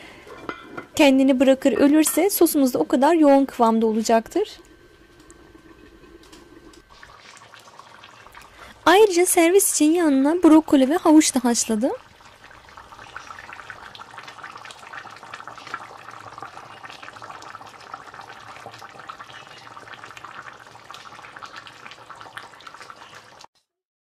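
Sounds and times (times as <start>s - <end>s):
pots bubbling on a stovetop: 0.0s - 23.5s.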